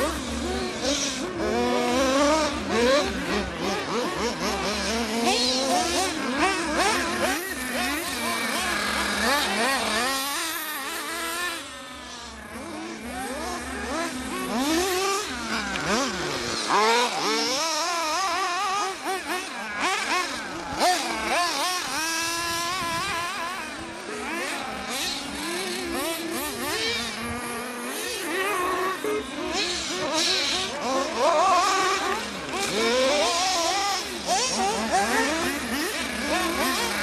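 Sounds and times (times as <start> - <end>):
rc car engines whining: 0.0 - 37.0.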